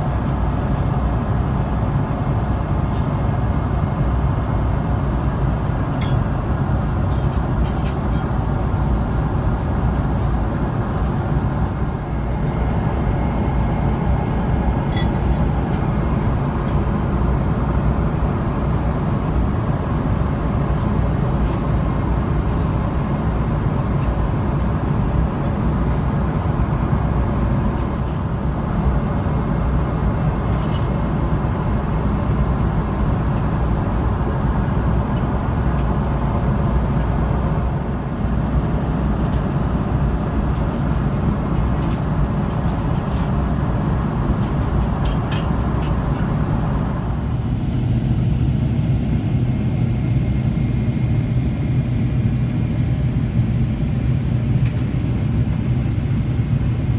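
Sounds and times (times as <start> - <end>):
airplane cabin drone: 0.0 - 56.9.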